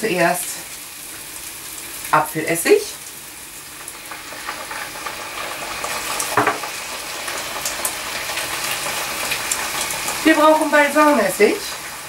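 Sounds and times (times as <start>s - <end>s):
onions sizzling in frying pan: 0.0s - 12.0s.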